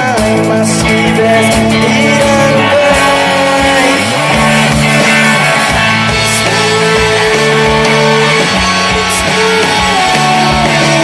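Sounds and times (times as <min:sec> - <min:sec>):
bass guitar: 0:00.0 - 0:11.0
drum beat: 0:00.0 - 0:11.0
electric guitars: 0:00.0 - 0:11.0.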